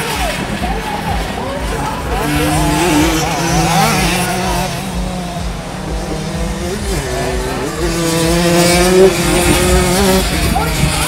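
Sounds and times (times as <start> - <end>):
two-stroke moped engines revving: 0.0 - 11.0.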